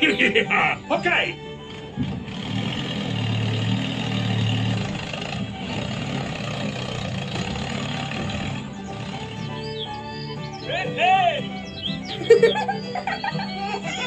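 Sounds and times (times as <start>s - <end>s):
tractor motor running: 0.0s - 14.0s.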